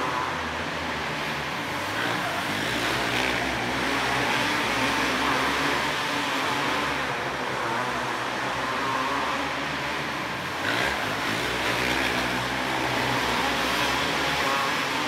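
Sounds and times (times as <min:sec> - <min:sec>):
kart engines racing: 0:00.0 - 0:15.0.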